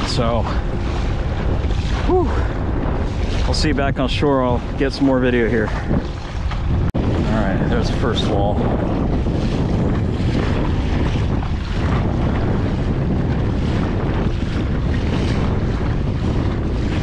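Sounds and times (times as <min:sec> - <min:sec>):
water splashing and rushing: 0:00.0 - 0:17.0
wind buffeting microphone: 0:00.0 - 0:17.0.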